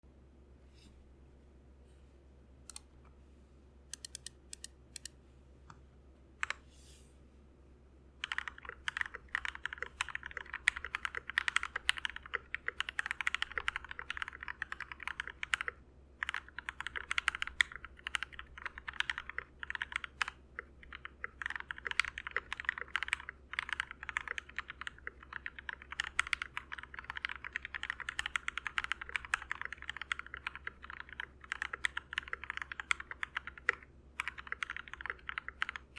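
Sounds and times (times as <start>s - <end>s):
typing on mechanical keyboard: 4.0s - 5.1s, 8.2s - 35.9s.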